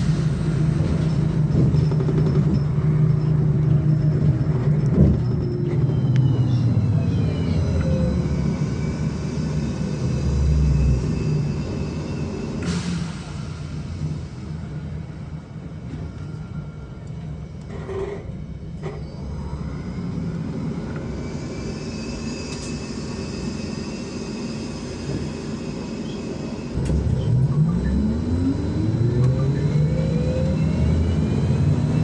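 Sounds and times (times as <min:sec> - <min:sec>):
trolleybus interior rumble: 0:00.0 - 0:32.0.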